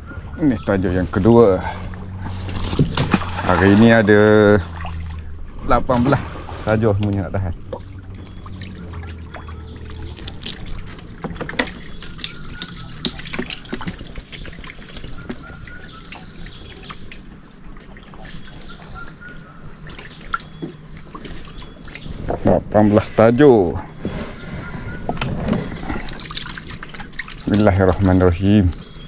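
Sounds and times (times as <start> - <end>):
water trickling and splashing: 0.0 - 29.0.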